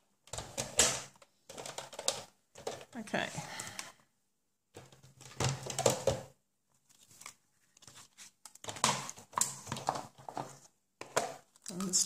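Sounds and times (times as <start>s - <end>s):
rustling and handling noise: 0.0s - 4.1s, 4.7s - 12.0s.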